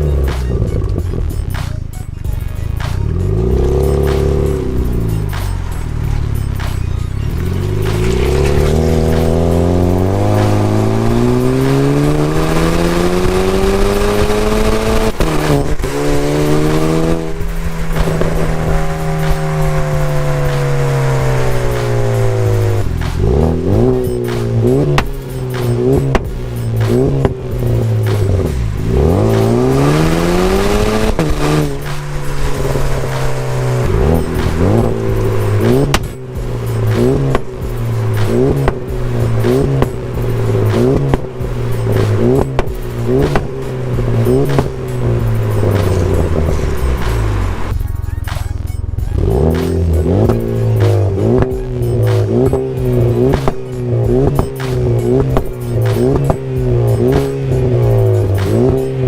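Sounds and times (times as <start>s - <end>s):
loud car exhaust accelerating: 0.0s - 59.0s.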